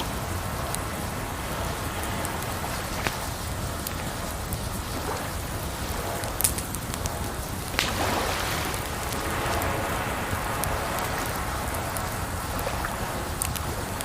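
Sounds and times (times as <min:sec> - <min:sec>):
campfire crackling and popping: 0:00.0 - 0:14.0
running water: 0:00.0 - 0:14.0.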